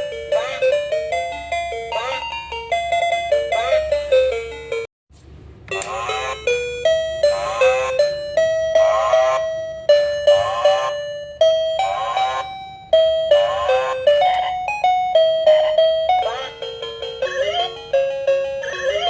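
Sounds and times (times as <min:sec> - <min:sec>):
electronic toy chiming melody: 0:00.0 - 0:04.9, 0:05.7 - 0:19.0.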